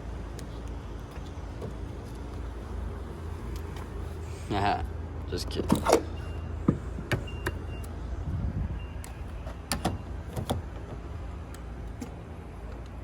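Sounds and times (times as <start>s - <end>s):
low vehicle hum: 0.0s - 13.0s.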